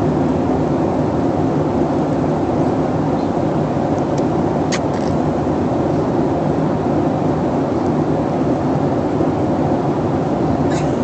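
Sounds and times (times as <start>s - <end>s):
airliner cabin engine drone: 0.0s - 11.0s.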